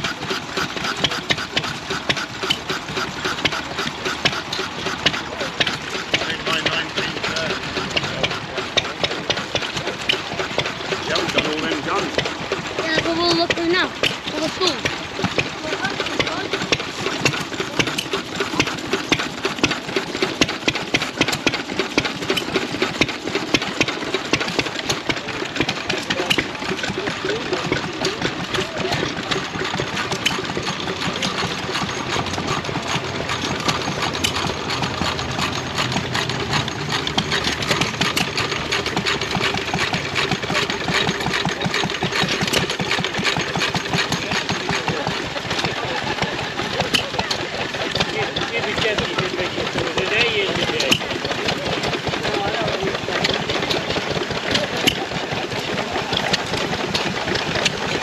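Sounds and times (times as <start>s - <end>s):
engine running with exhaust pulses: 0.0s - 58.0s.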